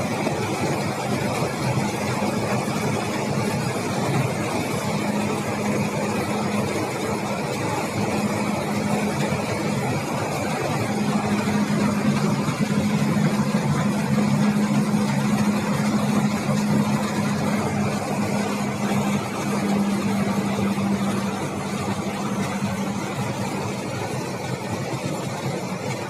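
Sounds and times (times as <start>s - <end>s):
coach engine hum: 0.0s - 26.0s
road and cabin noise: 0.0s - 26.0s.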